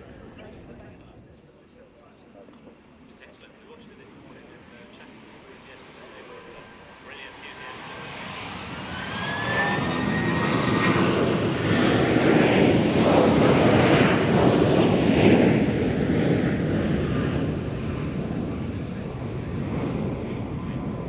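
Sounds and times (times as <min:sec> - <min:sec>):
plane engines passing: 0:00.0 - 0:21.0.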